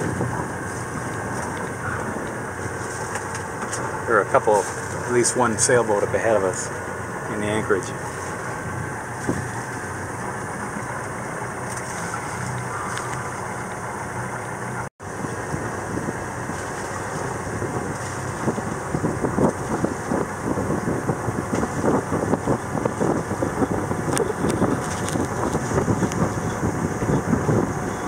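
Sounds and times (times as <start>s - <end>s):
boat engine running: 0.0s - 28.0s
wind buffeting microphone: 0.0s - 28.0s.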